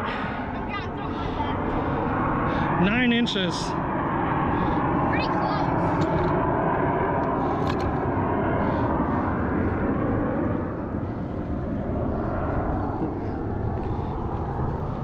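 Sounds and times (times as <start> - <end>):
jet aircraft flying over: 0.0 - 15.0.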